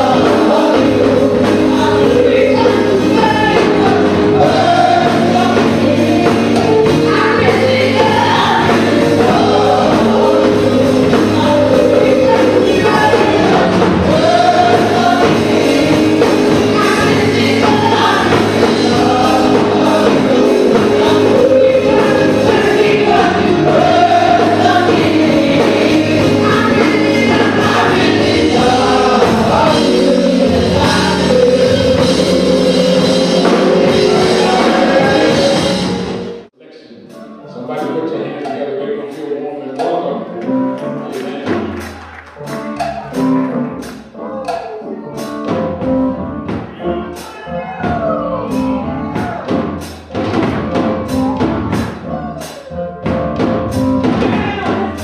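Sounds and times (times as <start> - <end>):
gospel choir singing: 0.0 - 55.0
live band playing: 0.0 - 55.0.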